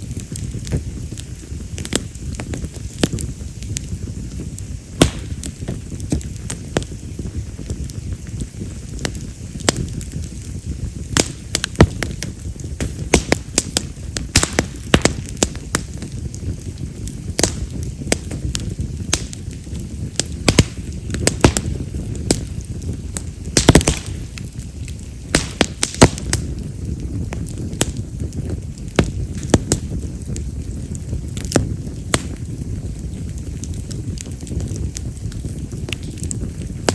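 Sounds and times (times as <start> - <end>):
firewood crackling and popping: 0.0 - 36.9
flames rushing: 0.0 - 36.9.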